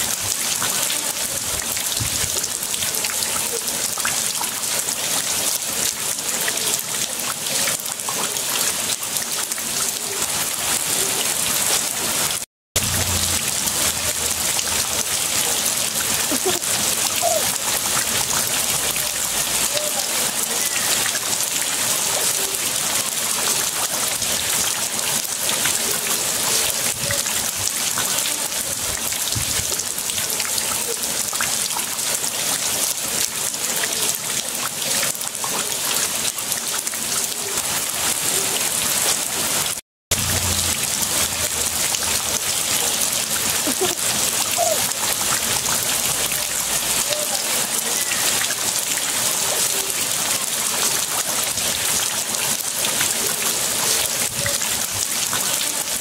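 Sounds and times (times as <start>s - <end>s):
heavy rain on concrete and water: 0.0s - 56.0s.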